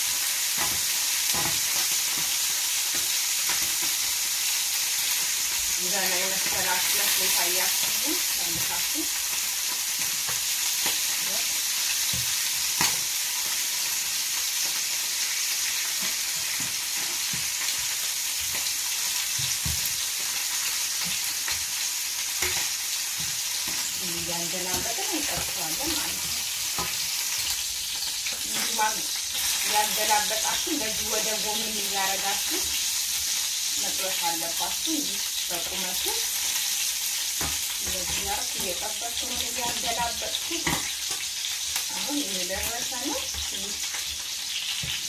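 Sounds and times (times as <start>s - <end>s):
meat sizzling in a frying pan: 0.0s - 45.0s.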